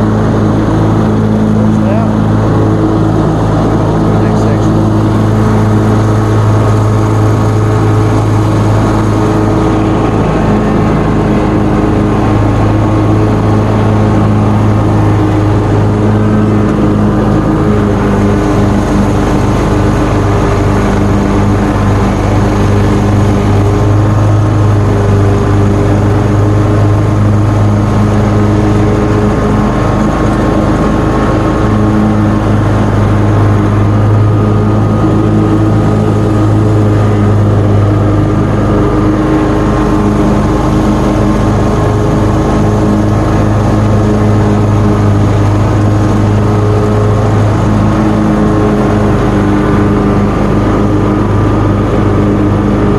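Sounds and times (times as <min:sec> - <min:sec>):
mower engine cutting grass: 0:00.0 - 0:52.9.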